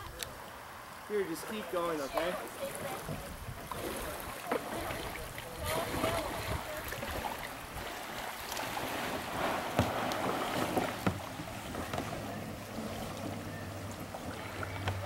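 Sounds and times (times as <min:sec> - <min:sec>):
paddle swishing through water: 0:00.0 - 0:15.0.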